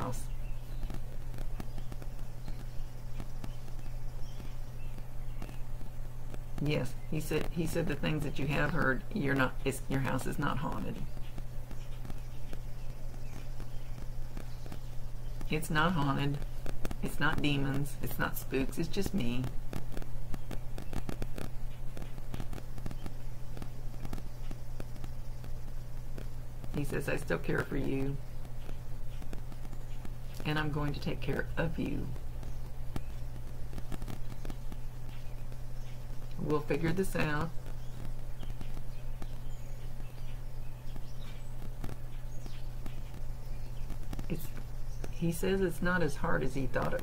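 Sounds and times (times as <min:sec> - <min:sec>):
crackling static clicks and pops: 0:00.0 - 0:47.0
low electrical hum: 0:00.0 - 0:47.0.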